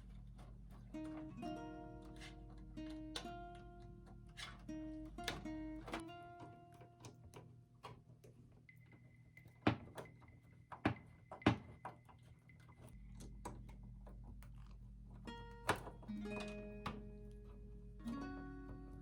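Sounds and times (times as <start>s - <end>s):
computer parts clicking and knocking: 0.0s - 17.2s.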